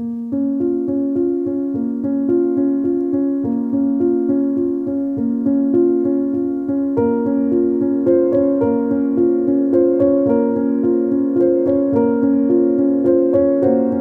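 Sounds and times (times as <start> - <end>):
electric piano repeating pattern: 0.0 - 14.0.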